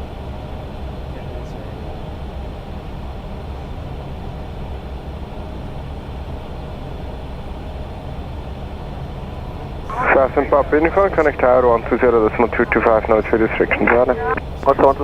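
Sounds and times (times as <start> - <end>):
aircraft cockpit rumble: 0.0 - 15.0.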